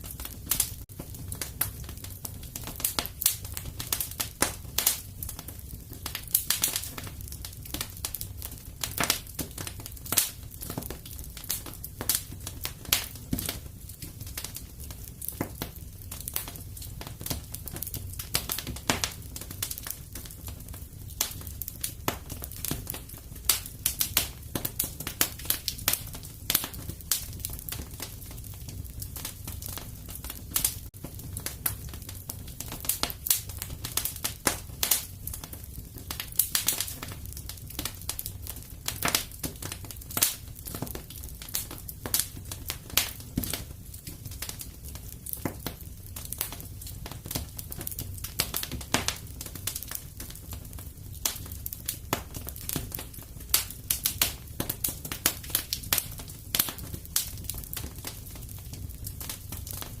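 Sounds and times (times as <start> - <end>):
fireplace crackling and popping: 0.0 - 60.0
low fire rumble: 0.0 - 60.0.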